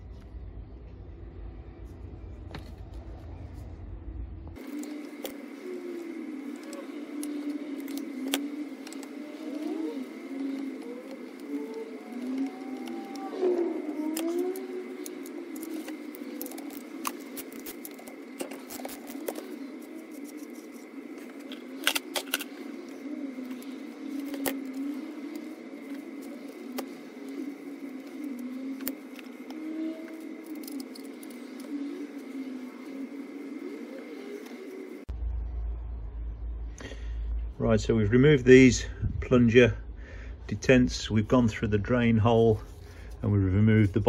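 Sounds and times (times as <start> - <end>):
faint high whine: 0.0 - 44.0
low wavering drone: 0.0 - 44.0.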